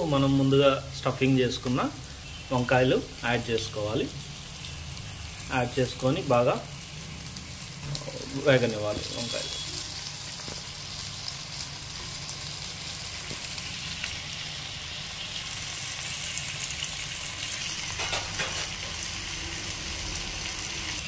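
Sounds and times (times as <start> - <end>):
oil sizzling in a pot: 0.0 - 21.0.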